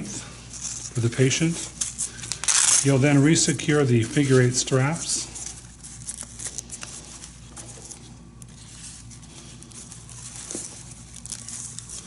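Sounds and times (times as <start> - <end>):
fabric straps rustling: 1.6 - 12.0.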